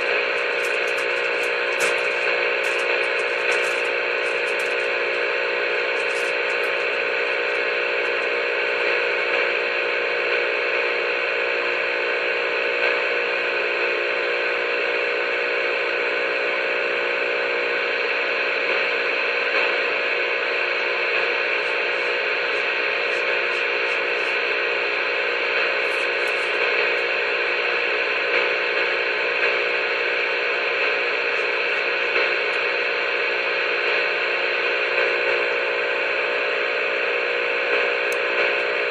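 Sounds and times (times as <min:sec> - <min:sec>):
droning held tones over radio: 0:00.0 - 0:38.9
radio hiss: 0:00.0 - 0:38.9.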